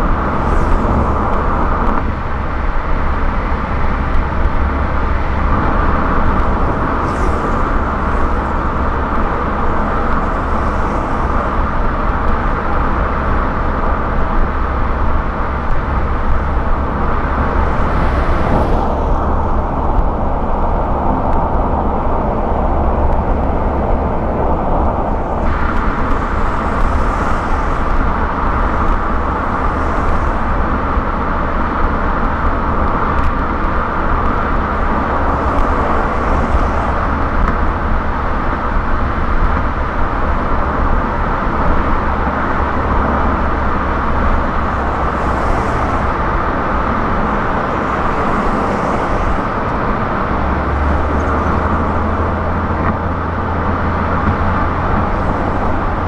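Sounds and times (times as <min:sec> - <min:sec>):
passing traffic swish: 0:00.0 - 0:56.0
road and tyre noise: 0:00.0 - 0:56.0.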